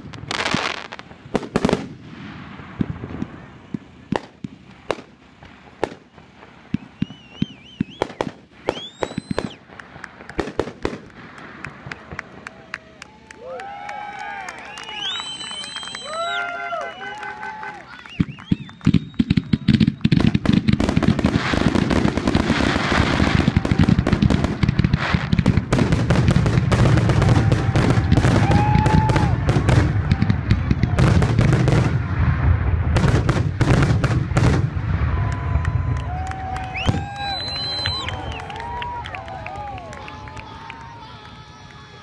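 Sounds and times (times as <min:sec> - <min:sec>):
fireworks pops and bangs: 0:00.0 - 0:14.0, 0:17.2 - 0:42.0
wavering firework whistle: 0:00.0 - 0:25.6, 0:26.4 - 0:32.0, 0:34.4 - 0:42.0
rising firework whistle: 0:00.0 - 0:42.0.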